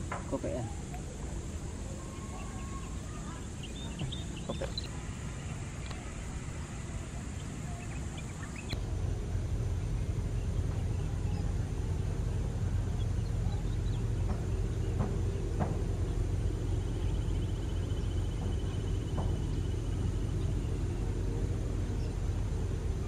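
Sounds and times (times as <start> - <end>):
jet airliner rumble: 0.0 - 23.0
bird chirps: 1.8 - 8.8, 9.7 - 23.0.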